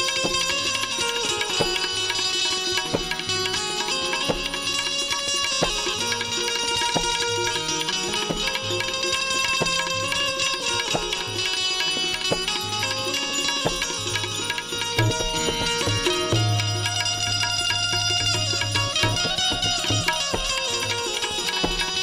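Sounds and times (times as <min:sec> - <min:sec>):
held melody notes: 0:00.0 - 0:22.0
tabla playing: 0:00.0 - 0:22.0.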